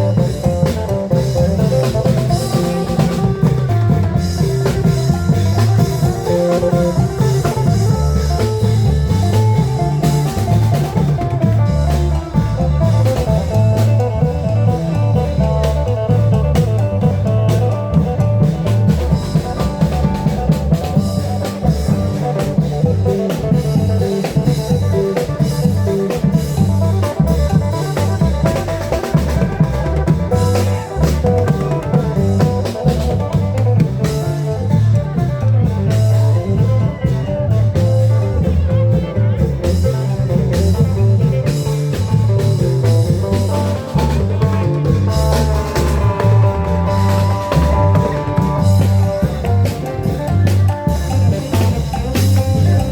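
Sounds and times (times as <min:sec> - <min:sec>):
driving drum beat: 0:00.0 - 0:52.9.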